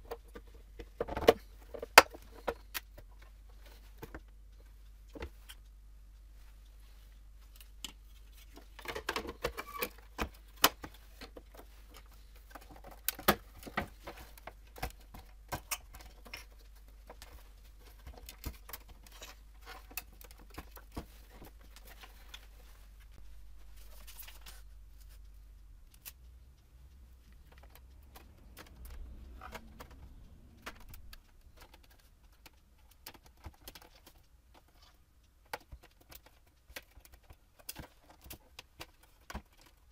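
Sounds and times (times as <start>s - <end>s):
plastic parts clicking and rattling: 0.0s - 5.6s, 7.4s - 23.2s, 27.1s - 39.9s.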